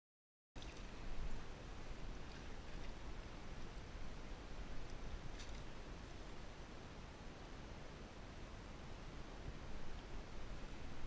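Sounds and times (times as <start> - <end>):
low rumble and hiss: 0.6 - 11.0.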